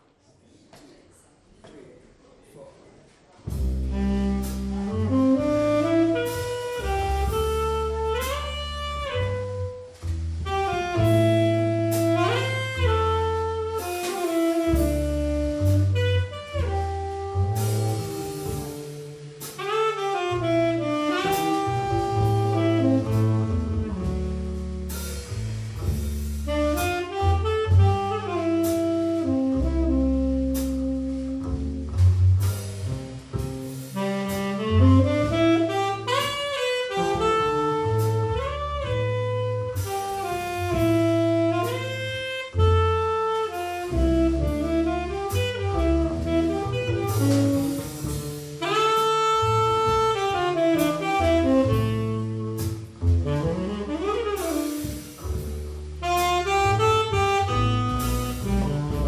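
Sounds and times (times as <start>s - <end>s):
drum kit with cymbals: 3.4s - 59.0s
walking double bass: 3.4s - 59.0s
tenor saxophone melody: 3.8s - 25.0s, 26.4s - 31.9s, 33.9s - 59.0s.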